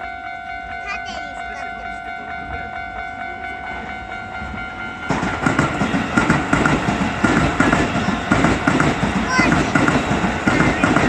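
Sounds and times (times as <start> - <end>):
railway crossing alarm: 0.0 - 11.0
train wheels clattering: 0.9 - 11.0.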